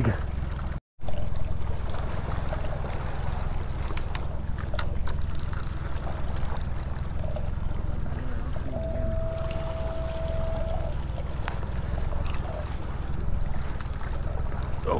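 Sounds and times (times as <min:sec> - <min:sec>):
boat engine idling: 0:00.0 - 0:14.9.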